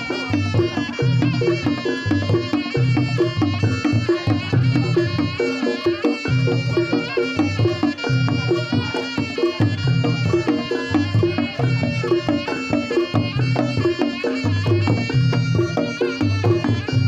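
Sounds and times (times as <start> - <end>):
wavering reed melody: 0.0 - 17.0.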